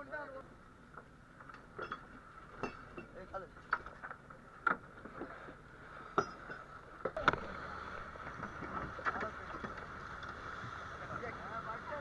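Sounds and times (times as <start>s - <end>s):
boat engine droning: 0.1s - 12.0s.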